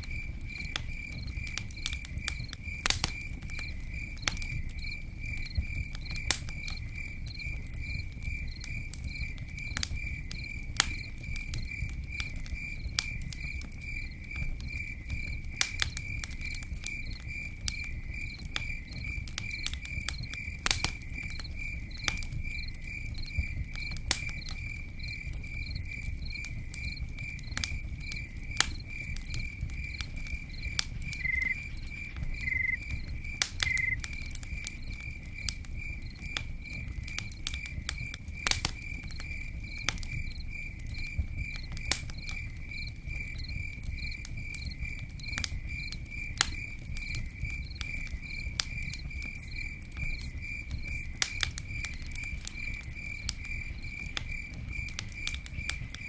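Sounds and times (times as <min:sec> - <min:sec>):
campfire crackling: 0:00.0 - 0:56.0
insect chirping: 0:00.0 - 0:56.0.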